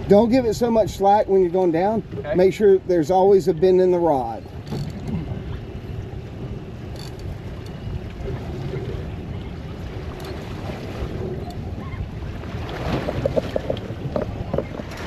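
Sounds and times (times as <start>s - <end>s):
boat engine rumble: 0.0s - 15.0s
water washing against hull: 0.0s - 15.0s
wind buffeting microphone: 0.0s - 15.0s.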